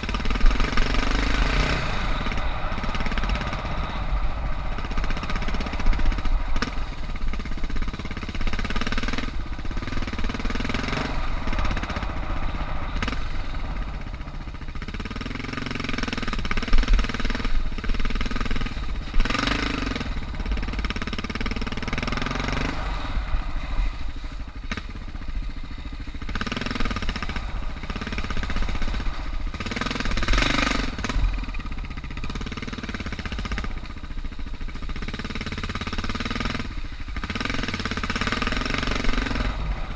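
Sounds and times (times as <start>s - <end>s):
rushes of noise: 0.0s - 35.4s, 36.5s - 39.9s
motorcycle engine revving: 0.0s - 39.9s.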